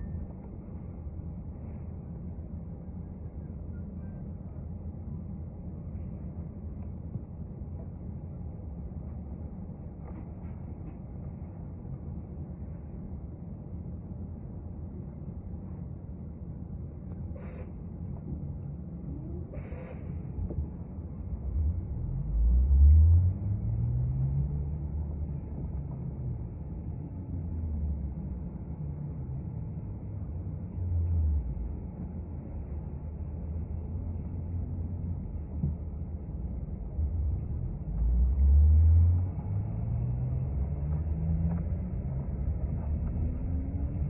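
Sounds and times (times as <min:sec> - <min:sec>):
bus engine accelerating: 0:00.0 - 0:44.0.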